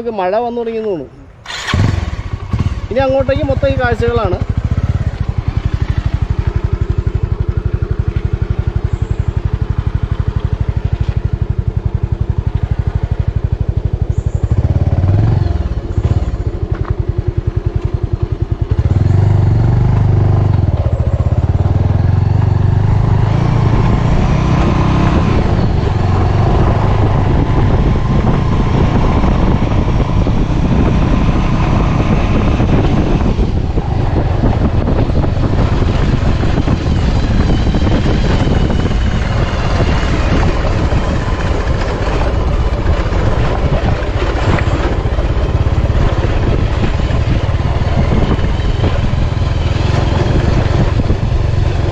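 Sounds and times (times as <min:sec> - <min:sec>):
motorcycle engine running: 0:00.0 - 0:51.9
wind on microphone: 0:00.0 - 0:51.9.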